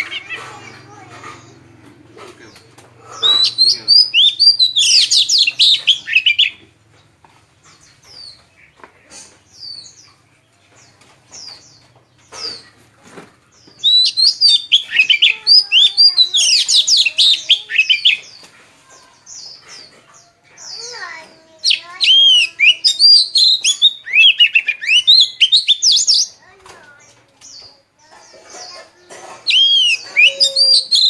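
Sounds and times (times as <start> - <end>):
birds warbling song: 0.0 - 31.0.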